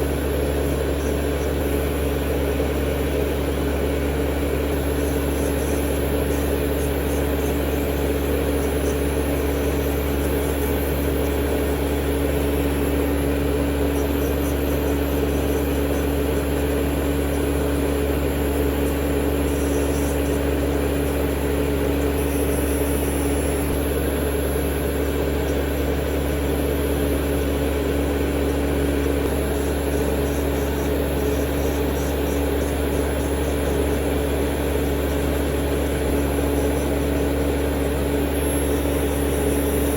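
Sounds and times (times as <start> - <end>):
electric nail file whining: 0.0 - 39.9.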